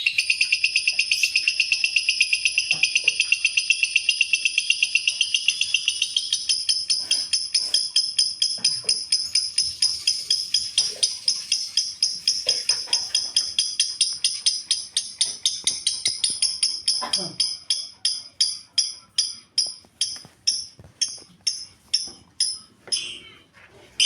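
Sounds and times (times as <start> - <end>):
lovebird chirping: 0.0 - 23.4.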